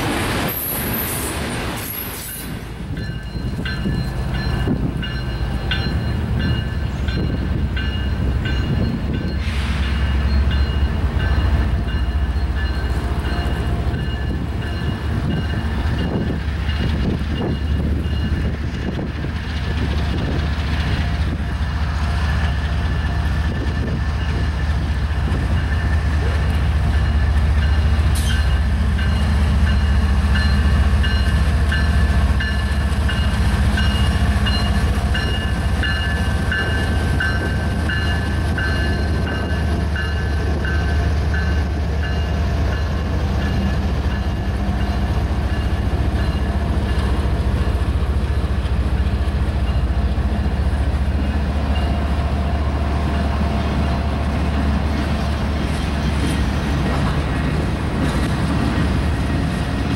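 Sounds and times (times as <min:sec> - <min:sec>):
locomotive engine rumble: 0:00.0 - 0:59.9
train wheels on rails: 0:00.0 - 0:59.9.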